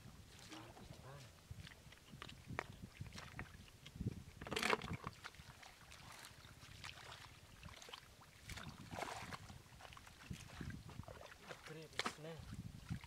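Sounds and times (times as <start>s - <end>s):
splashing in shallow muddy water: 0.0s - 13.0s.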